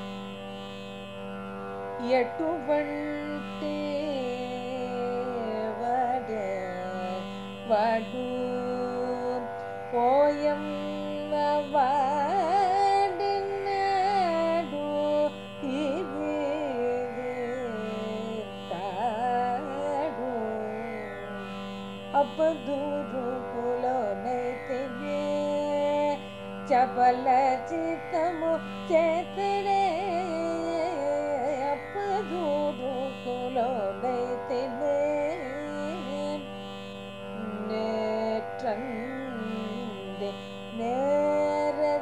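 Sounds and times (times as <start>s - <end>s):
woman singing ornamented melody: 2.0s - 21.4s, 22.1s - 36.6s, 37.2s - 42.0s.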